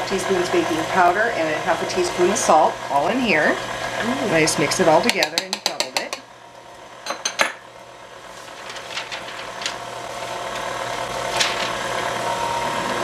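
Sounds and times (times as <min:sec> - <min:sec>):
stand mixer motor hum: 0:00.0 - 0:13.0.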